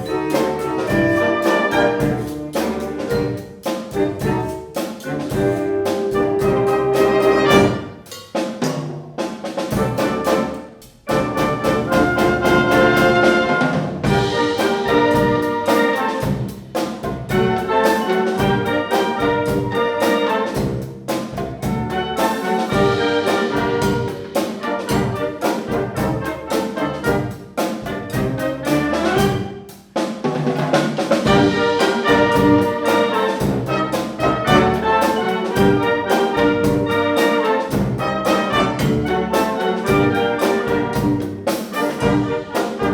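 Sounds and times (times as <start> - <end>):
wind band brass chords: 0.0 - 8.8, 9.5 - 42.9
percussion: 0.0 - 42.9.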